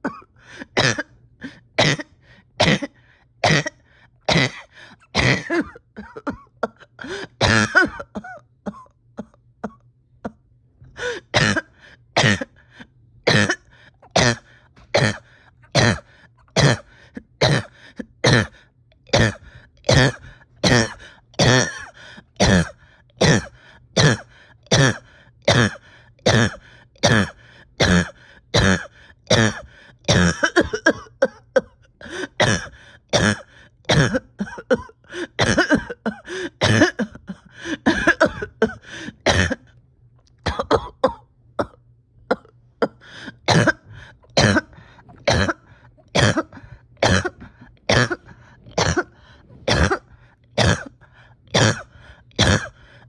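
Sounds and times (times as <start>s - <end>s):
person coughing: 0.0s - 10.4s, 11.0s - 12.6s, 13.3s - 39.7s, 40.4s - 53.0s.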